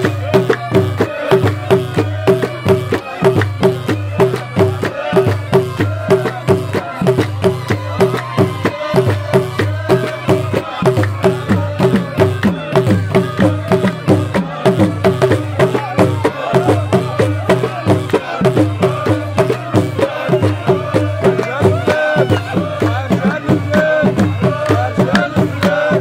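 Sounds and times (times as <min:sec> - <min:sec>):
drums beating steady rhythm: 0:00.0 - 0:26.0
voices chanting: 0:00.0 - 0:26.0.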